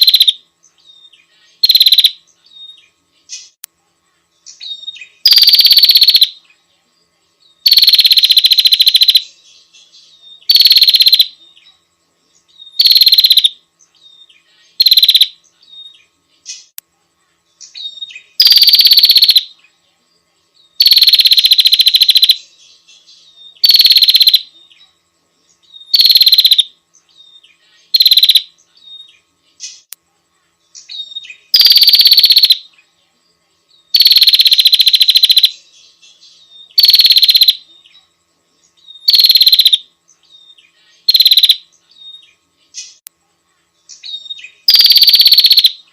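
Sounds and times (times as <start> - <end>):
bird buzzy trilled calls: 0.0 - 3.6, 4.4 - 6.5, 7.6 - 16.8, 17.6 - 19.7, 20.7 - 24.9, 25.5 - 29.9, 30.7 - 32.8, 33.9 - 43.0, 43.8 - 45.9.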